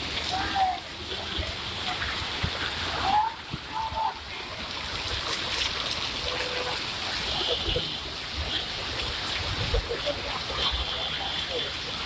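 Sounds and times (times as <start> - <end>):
rain: 0.0 - 12.0
running water: 0.0 - 12.0.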